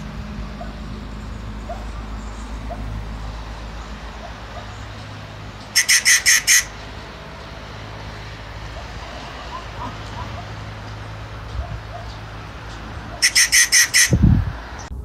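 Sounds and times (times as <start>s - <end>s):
bird harsh calls: 0.0s - 7.2s, 8.6s - 14.9s.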